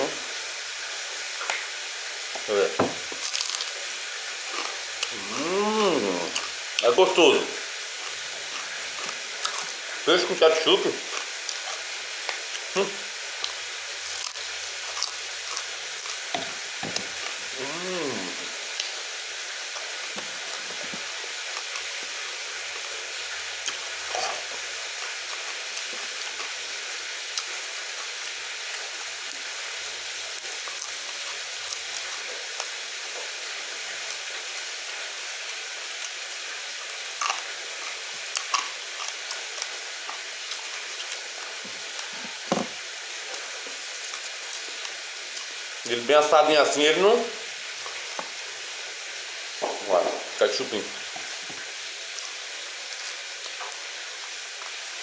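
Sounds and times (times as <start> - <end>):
food frying in hot oil: 0.0 - 55.0.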